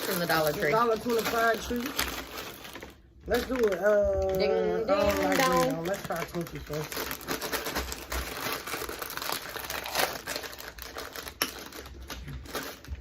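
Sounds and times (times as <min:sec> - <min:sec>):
plastic snack bag crinkling: 0:00.0 - 0:13.0.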